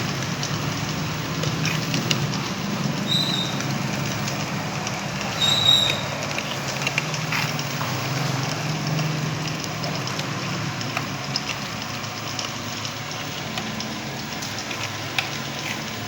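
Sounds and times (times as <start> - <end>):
grinder motor humming: 0.0 - 16.0
peanuts clicking in grinder: 0.0 - 16.0.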